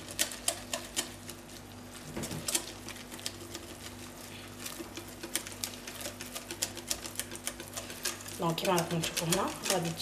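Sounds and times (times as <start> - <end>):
whisk scraping glass bowl: 0.0 - 10.0.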